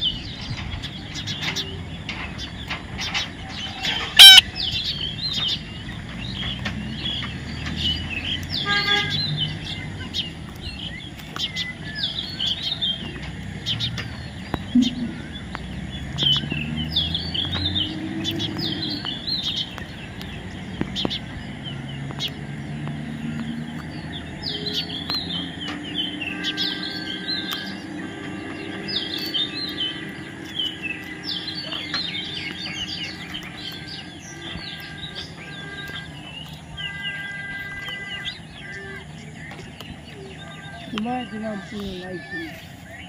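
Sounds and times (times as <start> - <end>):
parakeets chattering chirps: 0.0 - 43.0.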